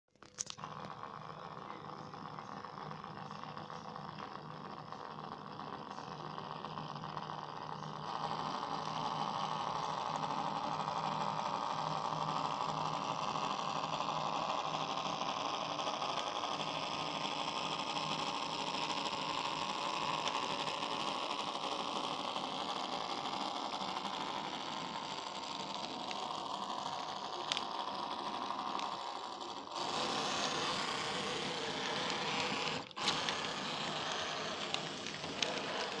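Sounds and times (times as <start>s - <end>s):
model train motor whirring: 0.2s - 36.0s.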